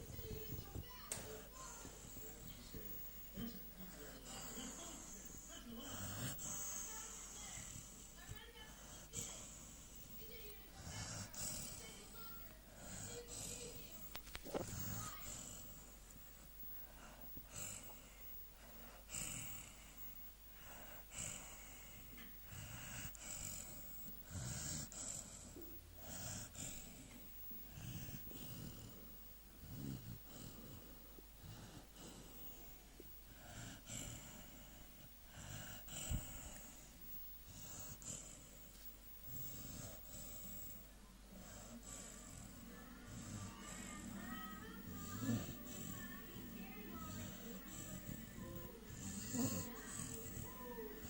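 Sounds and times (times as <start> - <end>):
puppy snoring: 0.0 - 51.0.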